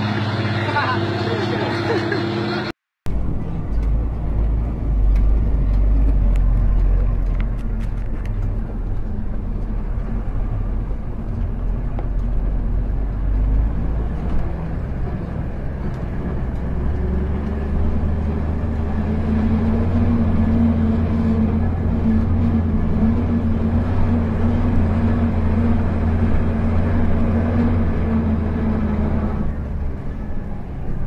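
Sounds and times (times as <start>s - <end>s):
bus engine rumbling: 0.0s - 31.0s.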